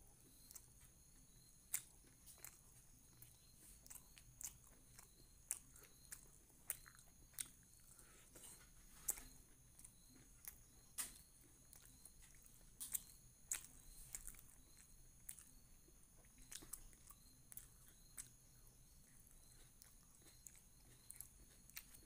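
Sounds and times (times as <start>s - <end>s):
person chewing with lip smacks: 0.3s - 15.6s, 16.2s - 22.0s.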